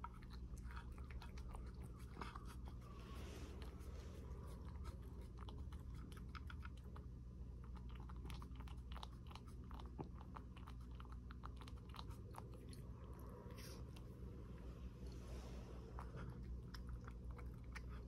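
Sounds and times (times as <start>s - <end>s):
cat chewing and clicking: 0.0s - 18.0s.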